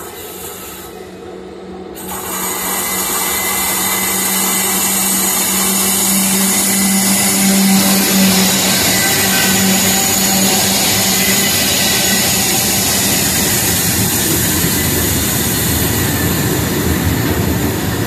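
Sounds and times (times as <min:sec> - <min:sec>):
electric locomotives passing: 0:00.0 - 0:18.0.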